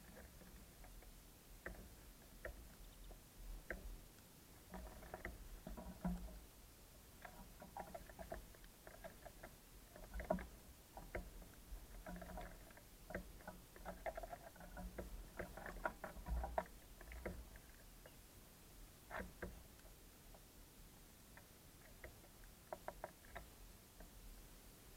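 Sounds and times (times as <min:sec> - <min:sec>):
birds tapping and scratching on feeder: 0:00.0 - 0:18.3, 0:19.0 - 0:20.5, 0:21.3 - 0:24.2.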